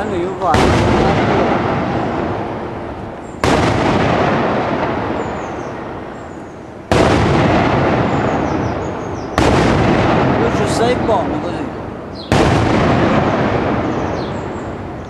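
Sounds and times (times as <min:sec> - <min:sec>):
firework bangs with rumbling echo: 0:00.0 - 0:15.0.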